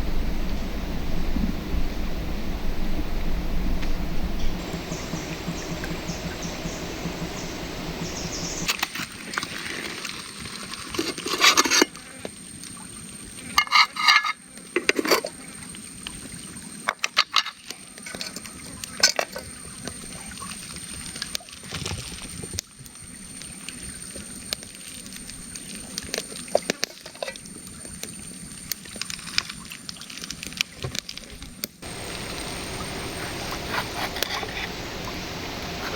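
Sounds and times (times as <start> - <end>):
rushing water: 0.0 - 14.1, 15.0 - 35.9.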